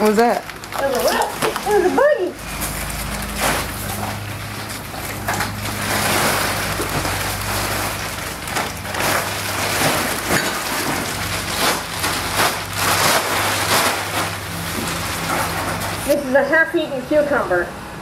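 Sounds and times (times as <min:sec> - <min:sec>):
plastic bag rustling: 0:00.0 - 0:16.5.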